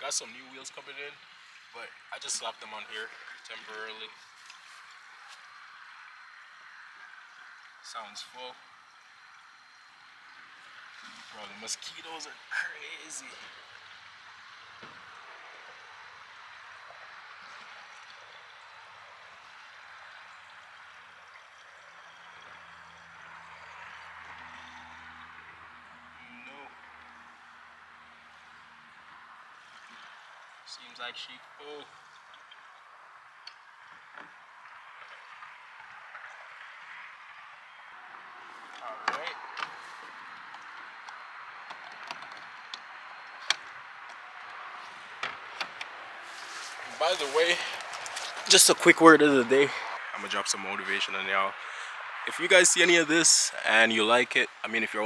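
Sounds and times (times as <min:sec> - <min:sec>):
steady outdoor hiss: 0:00.0 - 0:55.0
fuel flowing into tank: 0:00.1 - 0:50.6, 0:51.5 - 0:54.8.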